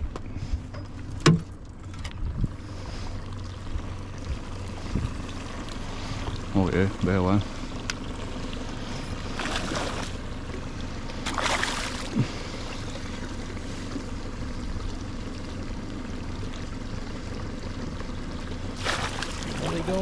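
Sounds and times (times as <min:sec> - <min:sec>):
low rumble: 0:00.0 - 0:20.0
water lapping: 0:01.4 - 0:20.0.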